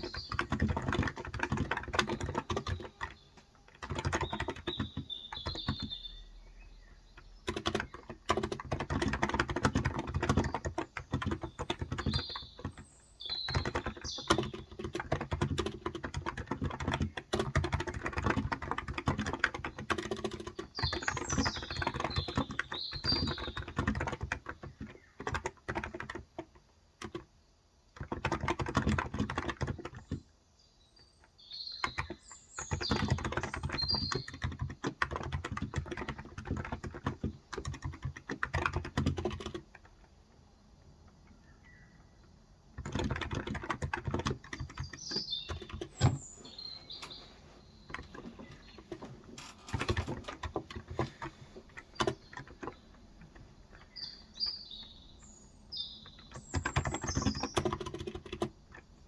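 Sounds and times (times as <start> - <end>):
typing on a keyboard: 0.0 - 6.4, 7.0 - 30.3, 31.0 - 59.0
small birds chirping: 0.0 - 59.0.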